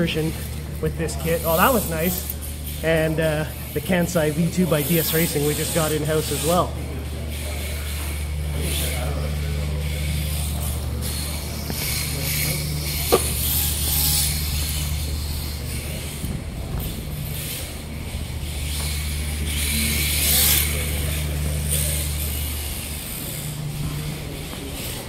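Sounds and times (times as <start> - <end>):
rc car tyres hissing: 0.0 - 6.7, 7.3 - 25.0
steady low hum: 0.0 - 25.0.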